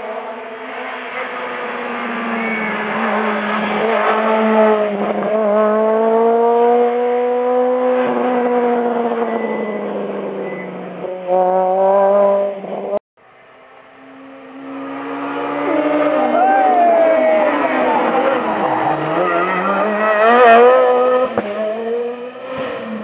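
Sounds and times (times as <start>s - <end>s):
rally car engine at full throttle: 0.0s - 23.0s.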